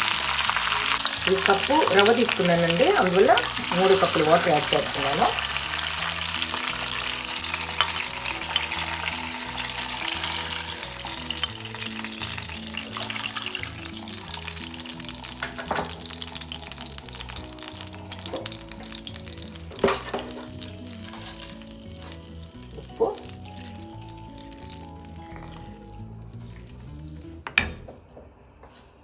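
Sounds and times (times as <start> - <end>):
hot oil sizzling: 0.0 - 27.2
background tune: 0.0 - 28.0.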